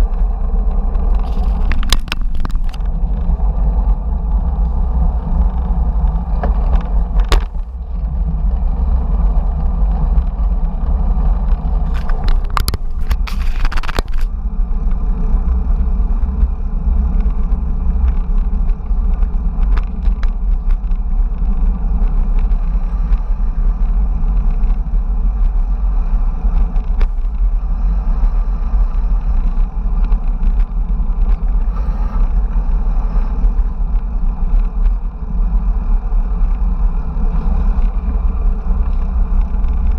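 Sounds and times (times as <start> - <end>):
bicycle rattling: 0.0 - 39.9
wind rumble on microphone: 0.0 - 39.9.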